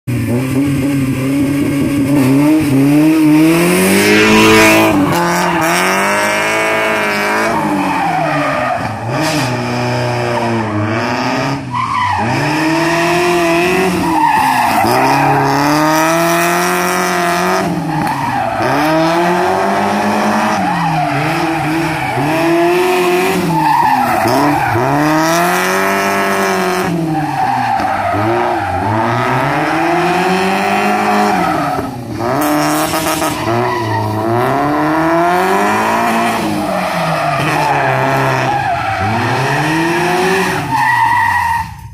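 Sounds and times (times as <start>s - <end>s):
car engine revving hard: 0.1s - 41.2s
tyres squealing and skidding: 3.1s - 41.9s.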